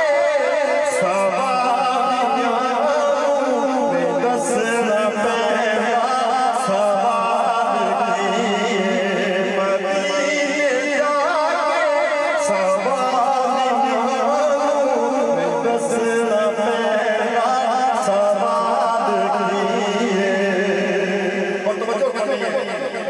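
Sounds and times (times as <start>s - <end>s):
man singing devotional chant: 0.0s - 23.0s.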